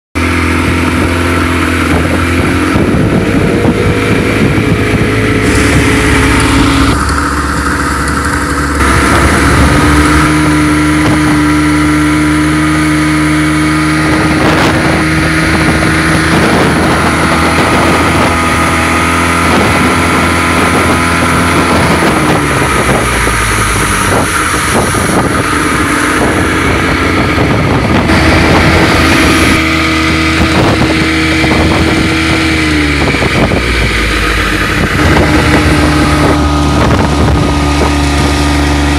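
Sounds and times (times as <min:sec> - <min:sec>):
outboard motor running: 0:00.2 - 0:38.9
water rushing in wake: 0:00.2 - 0:38.9.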